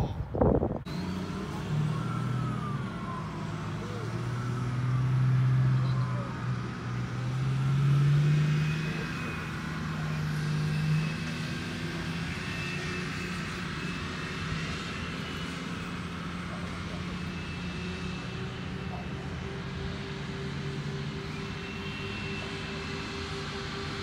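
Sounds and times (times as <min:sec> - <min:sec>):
vehicle engines droning: 0:00.0 - 0:24.0.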